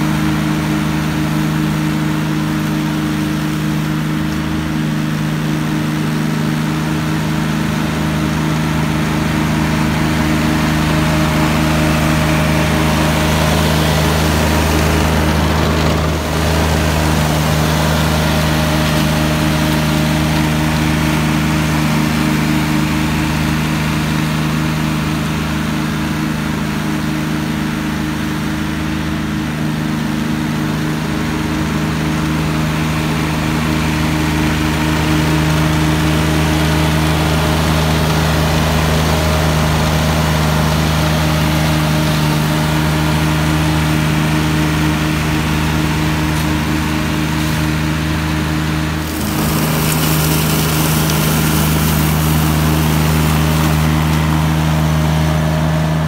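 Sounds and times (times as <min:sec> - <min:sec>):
flail mower cutting grass: 0:00.0 - 0:56.0.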